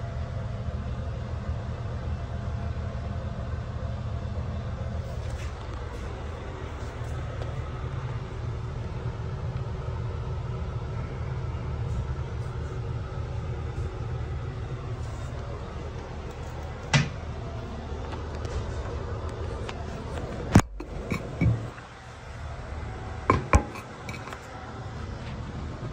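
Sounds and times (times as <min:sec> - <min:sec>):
low restroom rumble: 0:00.0 - 0:25.9.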